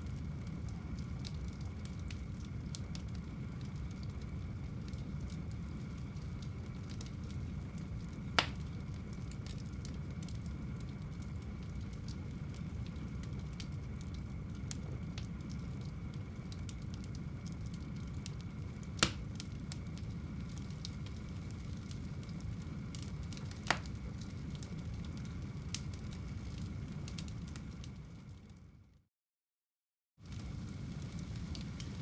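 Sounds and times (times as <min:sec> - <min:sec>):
fire crackles and pops: 0:00.0 - 0:28.9, 0:30.2 - 0:32.0
fireplace flames rumbling: 0:00.0 - 0:29.0, 0:30.2 - 0:32.0.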